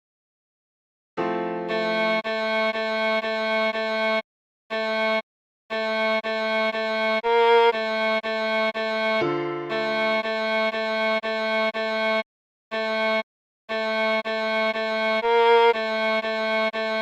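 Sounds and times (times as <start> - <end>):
viola playing a simple melody: 1.2 - 17.0.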